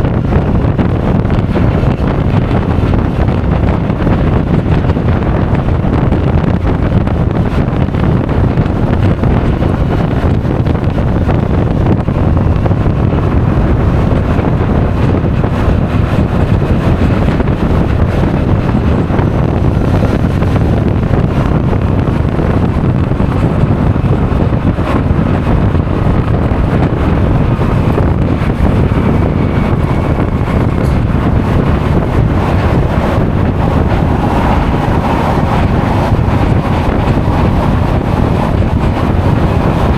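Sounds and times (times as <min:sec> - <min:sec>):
scooter running noise: 0:00.0 - 0:39.9
wind rushing over microphone: 0:00.0 - 0:39.9.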